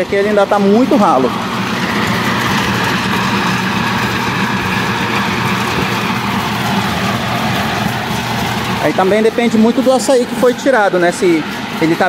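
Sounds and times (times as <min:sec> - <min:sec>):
pulping machine grinding fruit: 0:00.0 - 0:12.0.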